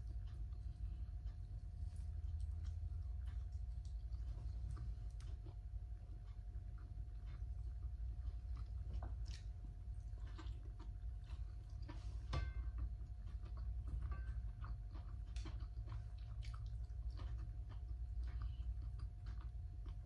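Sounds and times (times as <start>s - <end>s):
faint steady hum: 0.0s - 20.0s
person chewing and eating: 0.0s - 20.0s.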